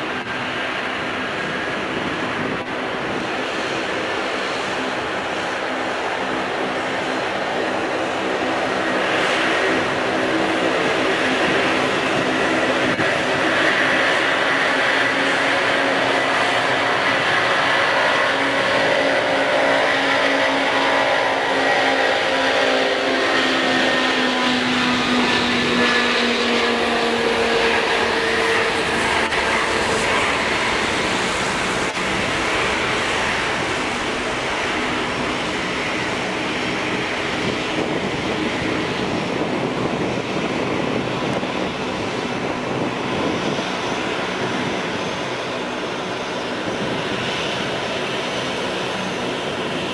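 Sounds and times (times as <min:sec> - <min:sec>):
jet engine whine: 0:00.0 - 0:49.9.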